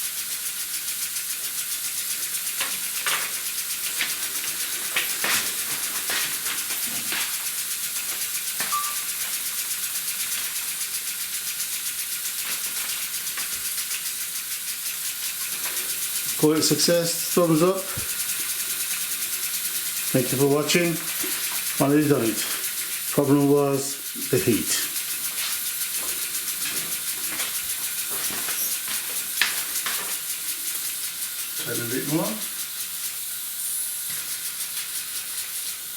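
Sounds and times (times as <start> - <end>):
model steam engine hissing and pulsing: 0.0 - 35.9.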